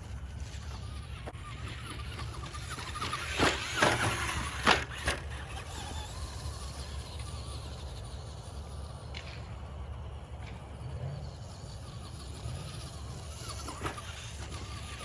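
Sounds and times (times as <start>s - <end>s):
rc truck motor whine: 0.0s - 15.0s
steady low hum: 0.0s - 15.0s
tyre squeal: 0.0s - 15.0s.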